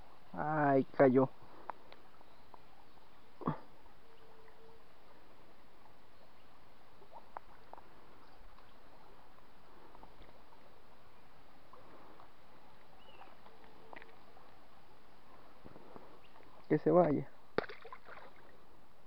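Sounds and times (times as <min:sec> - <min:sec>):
faint outdoor background hiss: 0:00.0 - 0:19.0.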